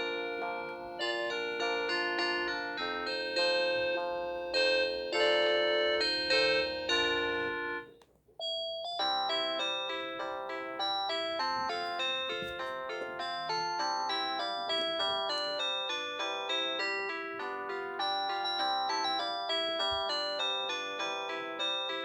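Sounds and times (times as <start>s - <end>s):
polyphonic phone ringtones: 0.0s - 22.0s.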